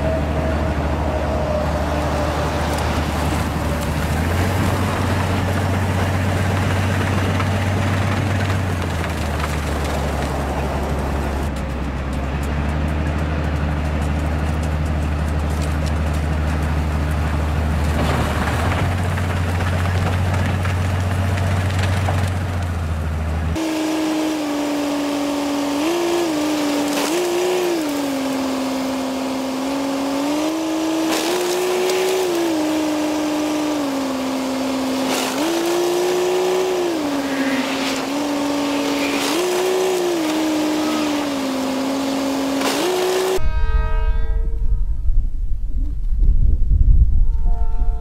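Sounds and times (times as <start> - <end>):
engine running under load: 0.0 - 48.0.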